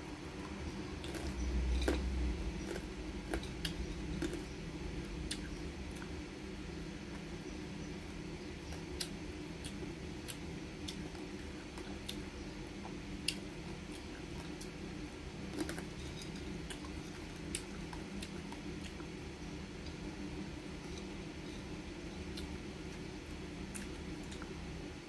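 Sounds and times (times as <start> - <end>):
crunchy chewing: 0.0 - 24.9
low hum: 0.0 - 25.0.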